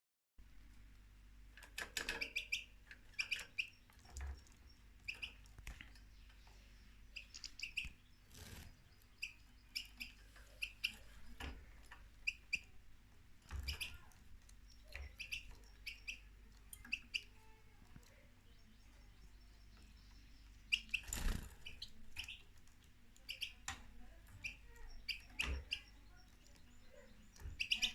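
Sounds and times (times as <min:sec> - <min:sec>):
finch chirping: 0:01.7 - 0:12.8, 0:13.5 - 0:27.9.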